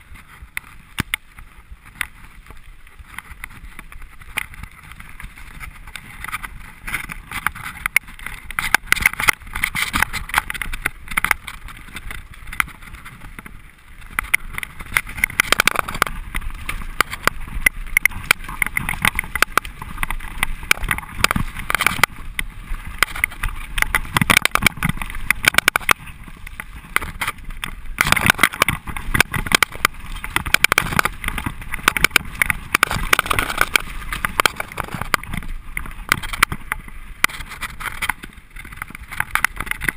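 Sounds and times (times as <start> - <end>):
bike frame and chain rattling: 0.0 - 39.9
bike tyres on dirt and rocks: 0.0 - 39.9.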